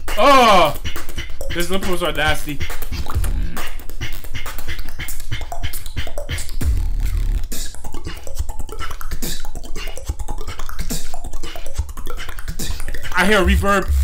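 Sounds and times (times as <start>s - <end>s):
person beatboxing into microphone: 0.0s - 14.0s.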